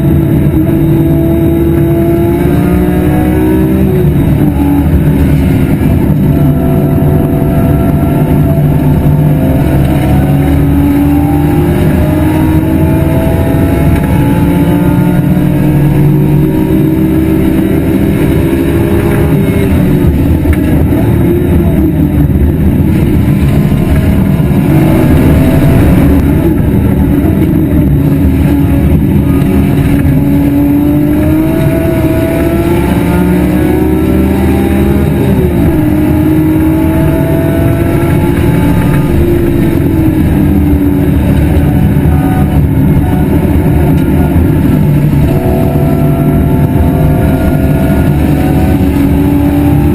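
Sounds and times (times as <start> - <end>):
racing car engine revving: 0.0 - 49.9.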